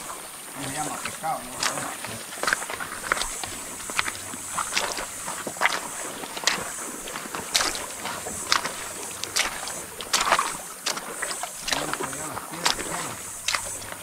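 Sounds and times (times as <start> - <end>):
river water splashing: 0.0 - 14.0
steady high hiss: 0.0 - 14.0.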